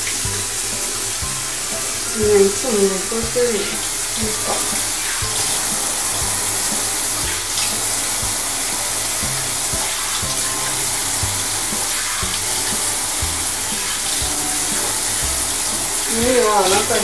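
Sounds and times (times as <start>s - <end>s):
shower spray splashing: 0.0s - 17.0s.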